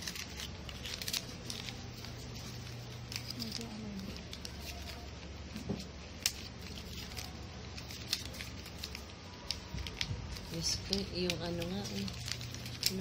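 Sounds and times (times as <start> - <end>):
paper crinkling and rustling: 0.0 - 13.0.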